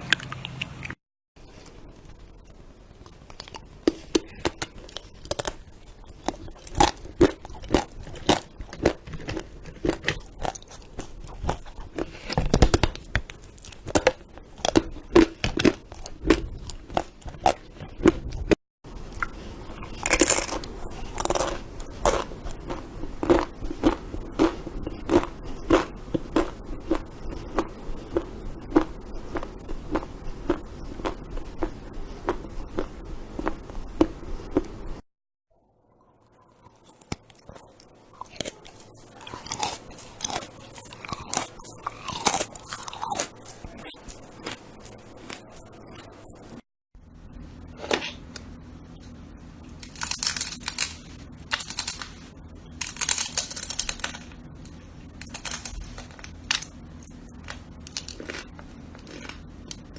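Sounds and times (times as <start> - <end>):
crunchy biting and chewing: 3.0 - 34.7, 36.6 - 46.0, 49.8 - 59.9.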